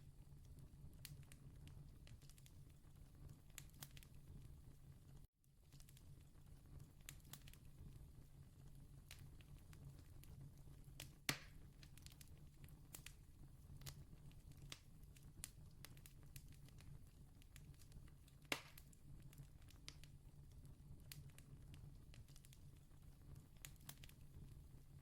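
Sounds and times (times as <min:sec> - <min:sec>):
campfire crackling and popping: 0:00.5 - 0:04.4, 0:05.6 - 0:25.0.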